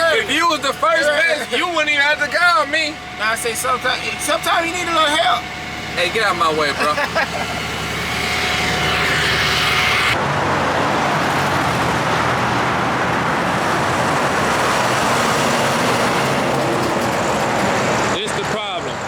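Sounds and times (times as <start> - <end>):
rushing road noise: 0.0 - 19.0
vehicle engine running: 0.0 - 19.0.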